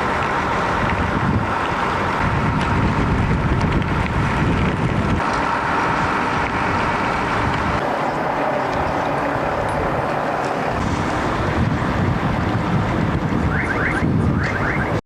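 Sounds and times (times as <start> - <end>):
traffic rushing: 0.0 - 15.0
wind buffeting microphone: 0.0 - 15.0.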